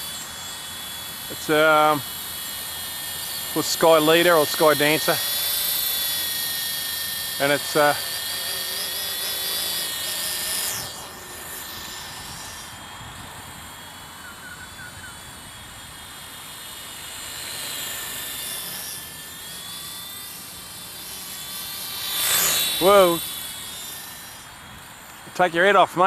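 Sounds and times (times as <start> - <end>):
toy helicopter rotor buzzing: 0.0 - 26.0.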